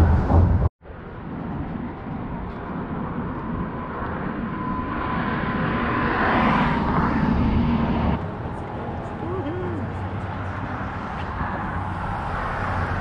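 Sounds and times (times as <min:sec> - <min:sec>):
vehicle noise: 0:00.0 - 0:13.0.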